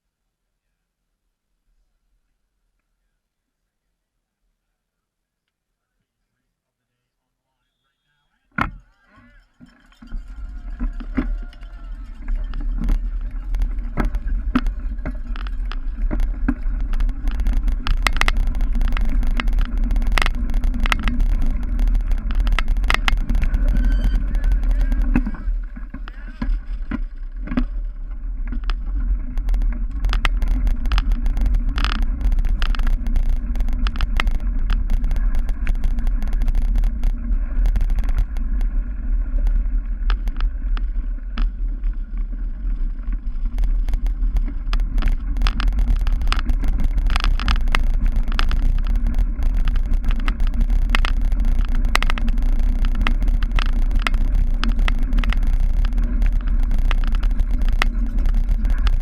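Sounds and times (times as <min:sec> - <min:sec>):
bike rumbling over rough ground: 0:08.6 - 0:59.0
bike rattling clicks and knocks: 0:09.6 - 0:59.0.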